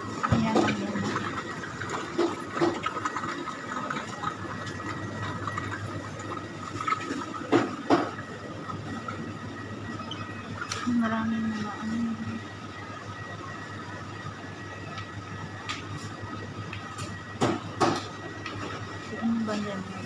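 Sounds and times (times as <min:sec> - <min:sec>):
refrigeration machinery hum and hiss: 0:00.0 - 0:20.0.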